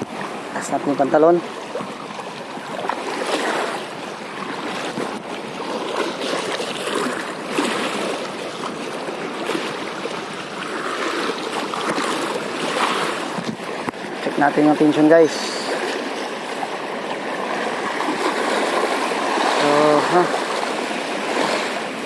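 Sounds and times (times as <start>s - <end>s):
sea water splashing over rocks: 0.0s - 22.0s.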